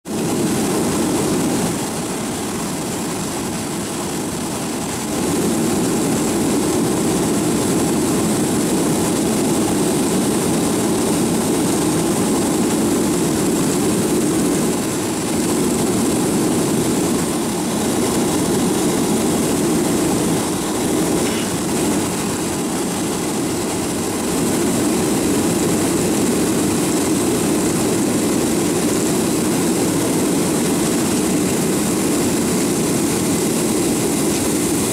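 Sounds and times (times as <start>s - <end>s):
jet engines rumbling in cabin: 0.1s - 34.9s.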